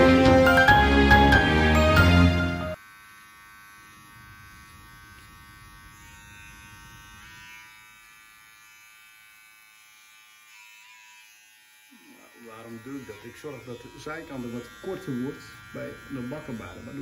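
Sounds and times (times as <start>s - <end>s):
electric beard trimmer buzzing: 0.0s - 17.0s.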